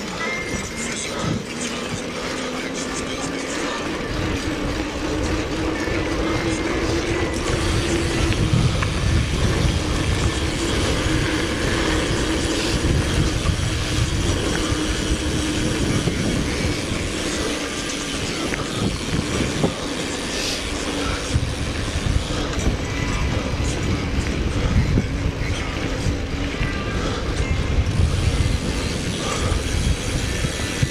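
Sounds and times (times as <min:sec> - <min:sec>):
bike tyres rumbling on trail: 0:00.0 - 0:30.9
wind buffeting microphone: 0:00.0 - 0:30.9.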